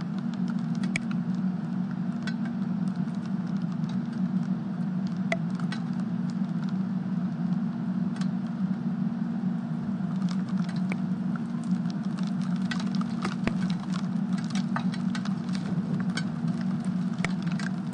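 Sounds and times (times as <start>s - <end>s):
rain pattering: 0.0s - 8.7s, 9.8s - 17.9s
sharp ticks of raindrops: 0.0s - 8.8s, 10.1s - 17.9s
steady low hum: 0.0s - 17.9s.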